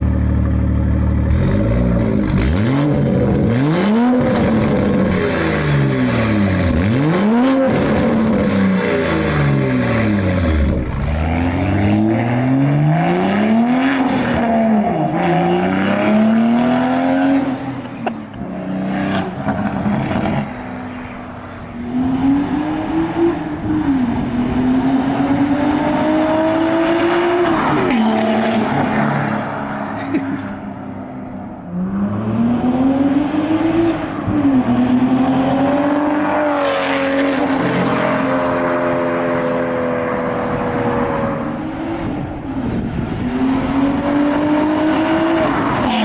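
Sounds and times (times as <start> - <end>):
car accelerating through gears: 1.3 - 21.1, 21.8 - 30.6, 31.7 - 42.2, 42.9 - 46.0.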